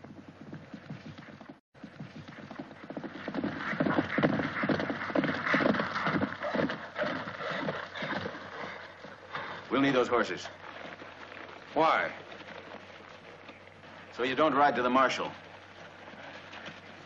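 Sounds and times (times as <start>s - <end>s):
horses galloping hoofbeats: 0.0s - 17.0s.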